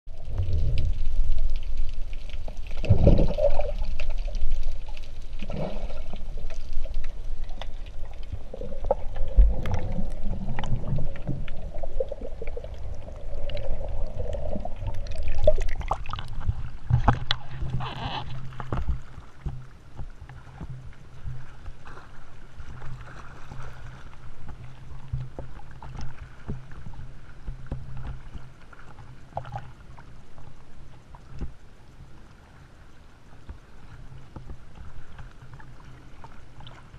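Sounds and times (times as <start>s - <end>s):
water sloshing and splashing: 0.1s - 30.5s, 33.4s - 36.9s.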